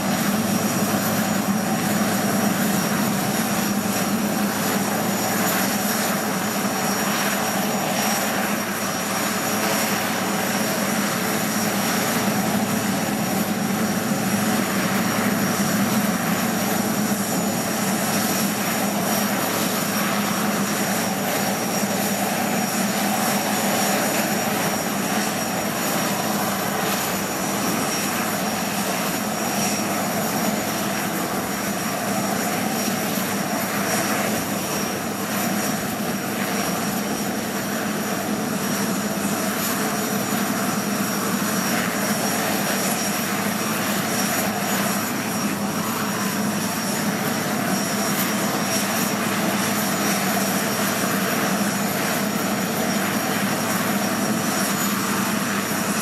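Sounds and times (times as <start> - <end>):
helicopter running on ground: 0.0 - 56.0.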